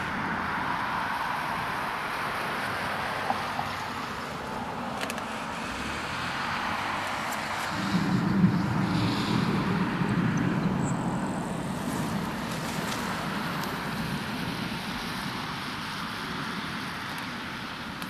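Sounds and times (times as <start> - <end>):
low vehicle rumble: 0.0 - 18.0
wind: 0.0 - 18.0.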